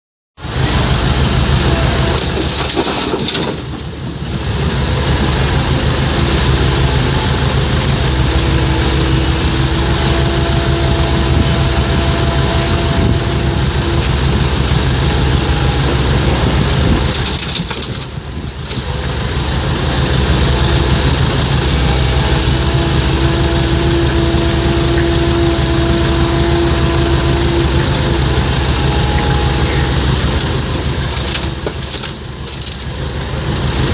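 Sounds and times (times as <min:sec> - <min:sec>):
excavator diesel engine under load: 0:00.4 - 0:33.9
hydraulic whine: 0:00.4 - 0:33.9.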